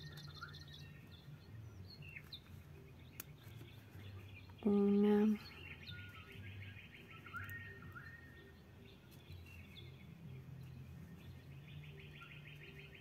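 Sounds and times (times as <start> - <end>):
faint bird chirps and trill: 0.0 - 13.0
low steady hum: 0.0 - 13.0.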